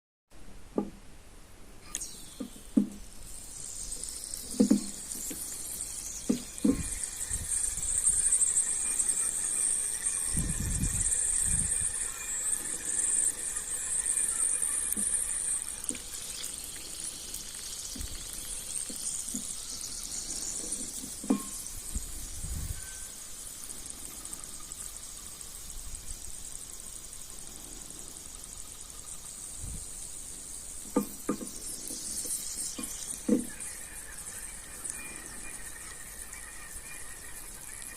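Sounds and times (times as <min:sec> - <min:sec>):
steady high hiss: 0:00.3 - 0:37.9.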